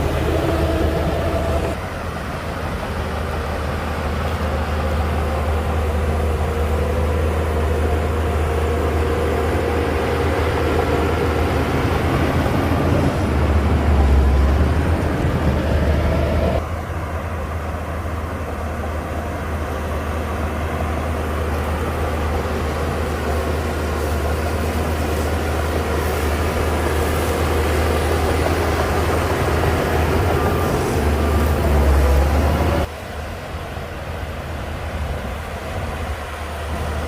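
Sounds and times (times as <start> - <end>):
bulldozer diesel engine droning: 0.0 - 32.9.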